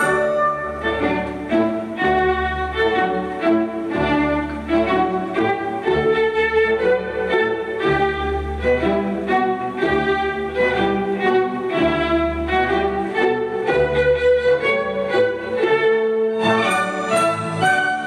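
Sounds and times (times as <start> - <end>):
classical string music: 0.0 - 18.0.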